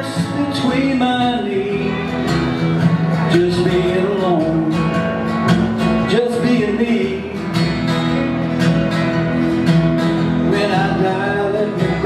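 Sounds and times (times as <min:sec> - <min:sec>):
strummed acoustic guitar: 0:00.0 - 0:12.0
upright bass: 0:00.0 - 0:12.0.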